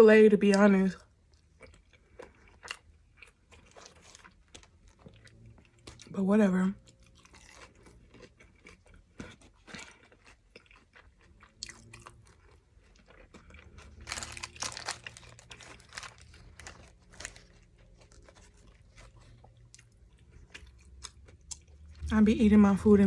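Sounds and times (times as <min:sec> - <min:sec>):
person chewing food: 0:01.0 - 0:06.1, 0:06.8 - 0:22.1.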